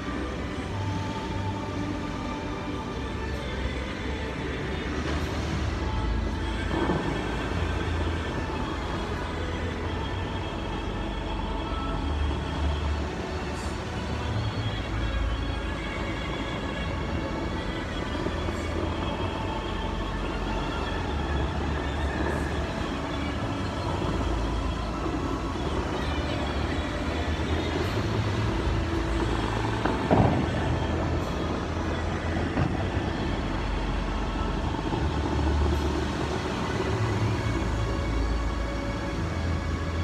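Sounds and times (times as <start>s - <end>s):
faint music from loudspeakers: 0.0s - 40.0s
fountain water jets roaring: 0.0s - 40.0s.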